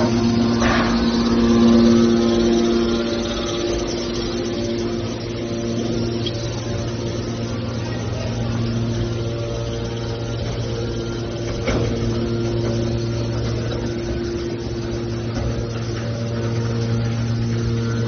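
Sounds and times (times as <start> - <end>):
hydraulic unit humming: 0.0 - 18.0.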